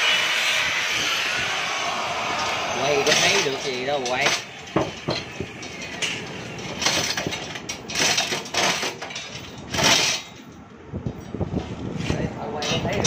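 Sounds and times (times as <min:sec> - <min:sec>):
metal clattering and scraping: 0:02.3 - 0:13.0.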